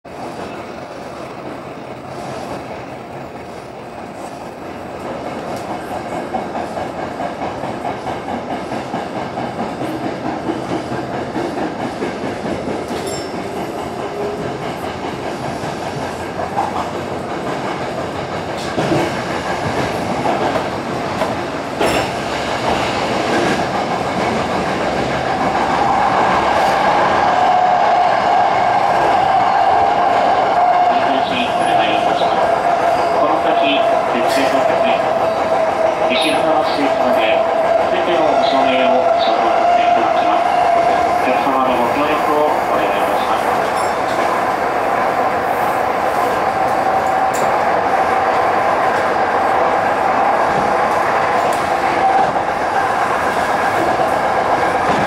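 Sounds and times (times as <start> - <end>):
train wheels rumbling on rail: 0.1 - 55.0.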